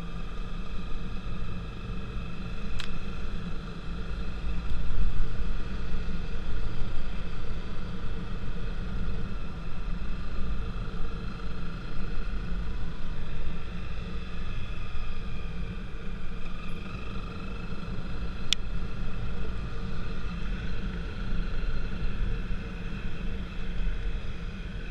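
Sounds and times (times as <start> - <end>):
faint steady tones: 0.0 - 24.9
vehicle low rumble: 0.0 - 24.9.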